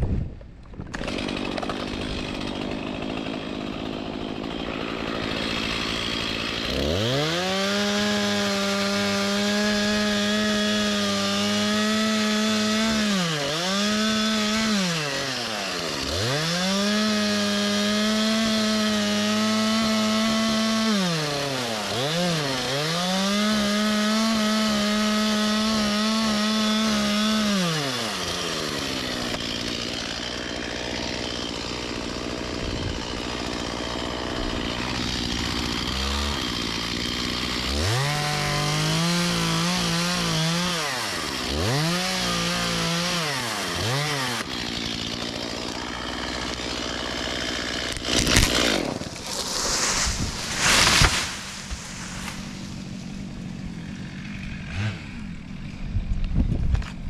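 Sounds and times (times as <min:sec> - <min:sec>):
chainsaw cutting wood: 0:00.4 - 0:57.0.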